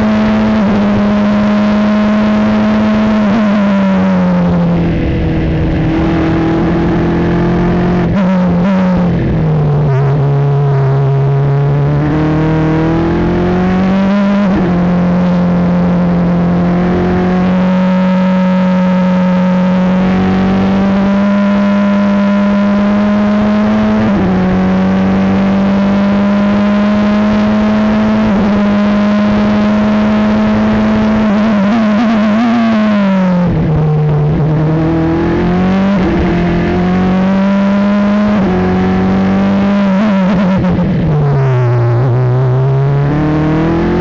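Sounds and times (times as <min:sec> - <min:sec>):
race car engine at full throttle: 0:00.0 - 0:44.0.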